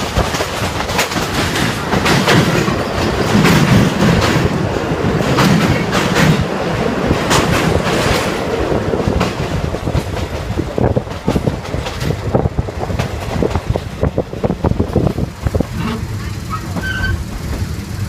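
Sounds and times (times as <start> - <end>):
train rumbling: 0.0 - 18.0
wheels clattering over rail joints: 0.0 - 18.0.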